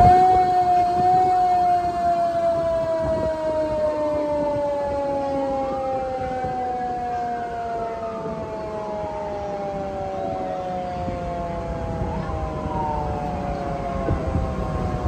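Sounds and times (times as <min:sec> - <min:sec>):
fire siren winding down: 0:00.0 - 0:15.0
low vehicle rumble: 0:00.0 - 0:15.0
siren tone rising and falling: 0:00.0 - 0:15.0.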